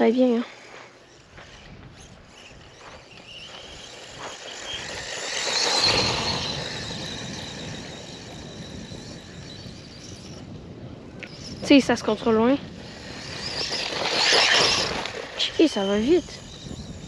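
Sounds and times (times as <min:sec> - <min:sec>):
electric motor whining: 0:00.9 - 0:17.0.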